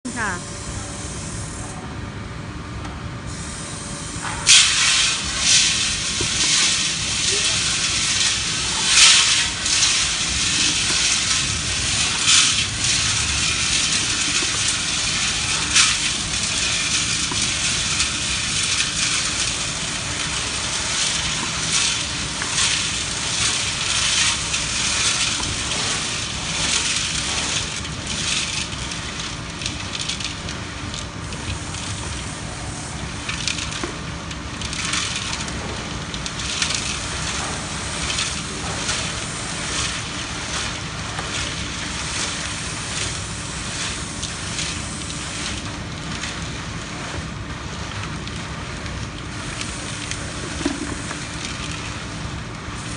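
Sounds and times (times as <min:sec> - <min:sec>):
concrete mixer drum rattling: 0:04.2 - 0:52.9.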